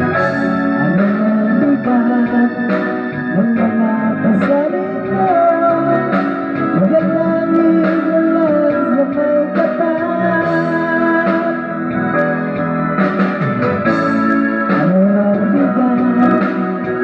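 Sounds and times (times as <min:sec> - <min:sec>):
ballad with bending lead melody: 0:00.0 - 0:17.0
guitar: 0:00.0 - 0:17.0.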